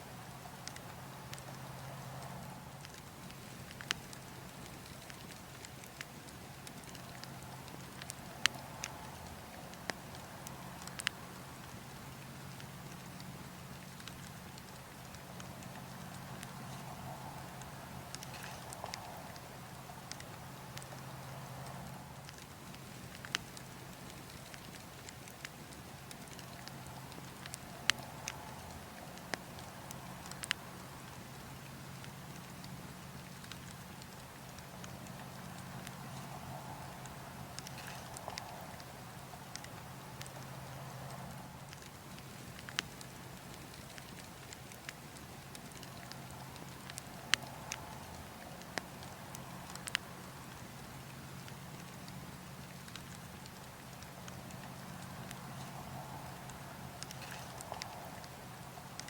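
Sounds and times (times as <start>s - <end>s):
burning logs crackling: 0.0s - 59.0s
fire popping: 0.0s - 59.0s
low rumble of wind: 0.0s - 59.0s.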